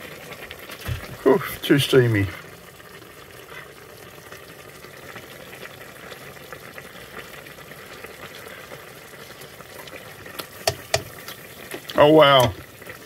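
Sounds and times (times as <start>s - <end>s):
pot of soup bubbling: 0.0s - 13.0s.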